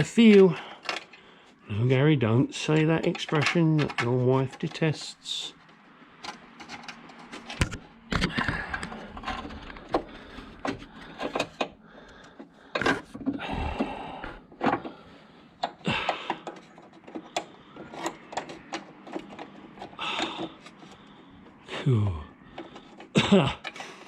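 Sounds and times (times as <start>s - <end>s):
metal parts clicking and scraping: 0.0s - 1.2s, 2.6s - 21.7s, 22.4s - 24.0s.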